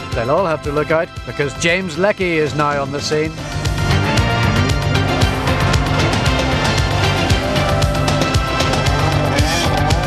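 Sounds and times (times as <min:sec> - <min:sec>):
theme music with fast beat: 0:00.0 - 0:10.0.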